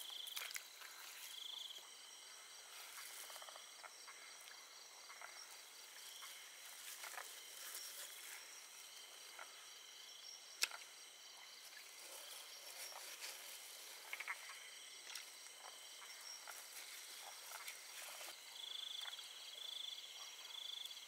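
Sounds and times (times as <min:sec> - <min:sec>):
night insects chirping: 0:00.0 - 0:21.0.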